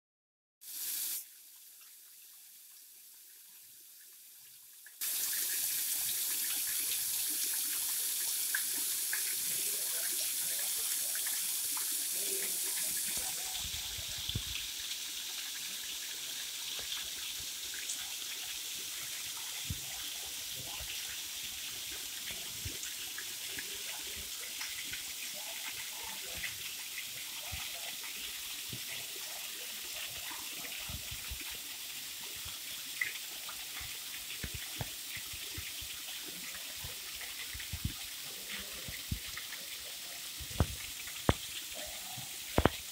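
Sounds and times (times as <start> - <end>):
waterfall splashing into pool: 5.0 - 42.9.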